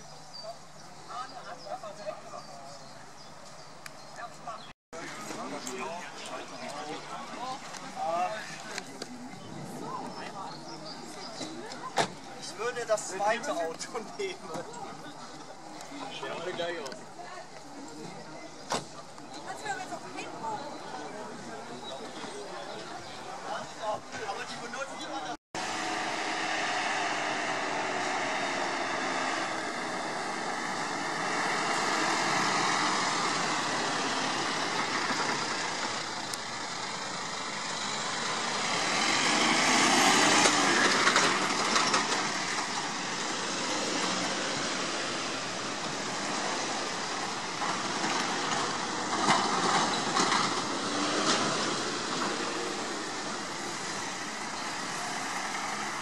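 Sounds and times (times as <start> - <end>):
vehicles driving past: 0.0 - 56.0.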